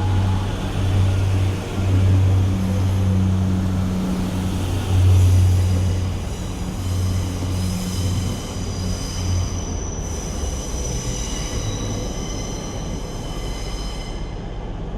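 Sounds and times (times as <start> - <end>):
wheels squealing on rails: 0.0 - 14.9.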